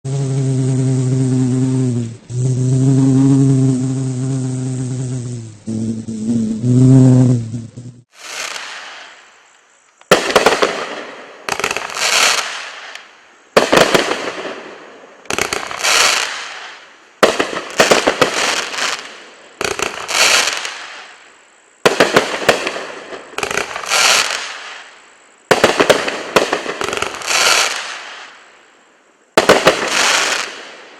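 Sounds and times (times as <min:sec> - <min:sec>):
firework shots with hissing breaks: 0:00.2 - 0:09.5, 0:10.1 - 0:28.6, 0:29.3 - 0:30.9.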